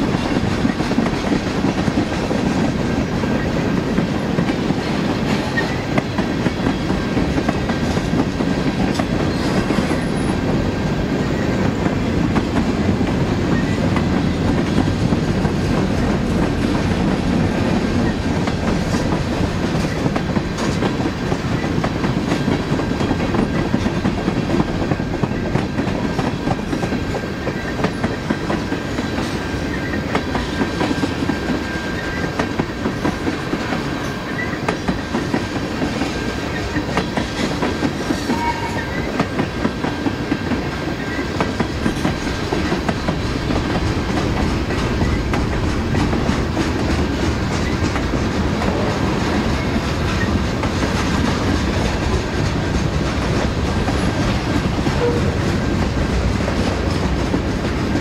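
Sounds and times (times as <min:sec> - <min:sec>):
freight train rumble: 0:00.0 - 0:58.0
train wheels clicking over rail joints: 0:00.0 - 0:58.0.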